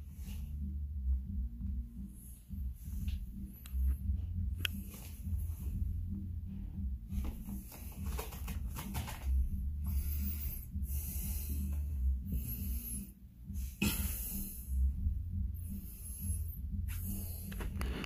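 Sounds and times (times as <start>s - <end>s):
low rumble: 0.0s - 7.6s, 9.4s - 18.0s.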